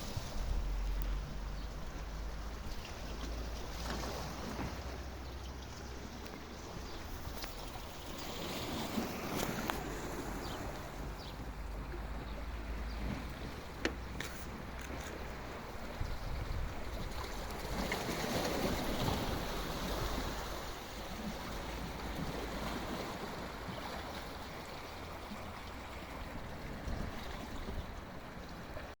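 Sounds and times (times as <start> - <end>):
sea water washing: 0.0 - 28.9
wind rumble on microphone: 0.0 - 28.9.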